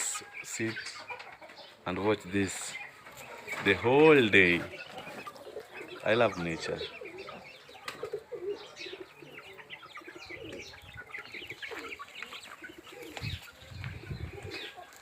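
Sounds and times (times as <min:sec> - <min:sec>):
chicks peeping: 0:00.0 - 0:15.0
hens clucking: 0:00.0 - 0:15.0.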